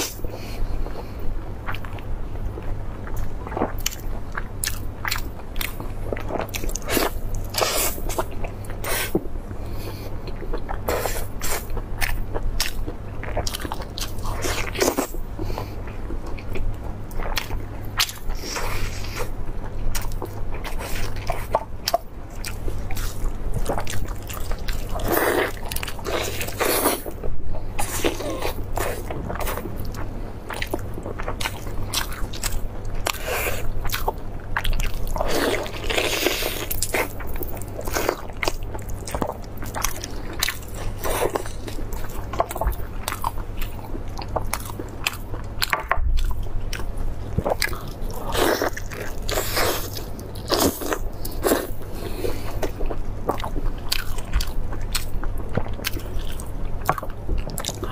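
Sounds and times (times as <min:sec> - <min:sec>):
steady low hum: 0:00.0 - 0:57.9
biting and chewing meat: 0:01.6 - 0:57.9.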